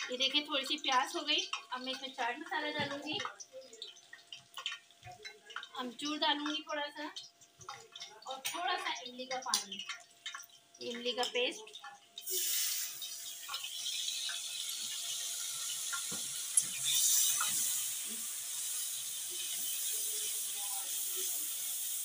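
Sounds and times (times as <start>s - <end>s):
liquid sizzling in a wok: 0.0s - 22.0s.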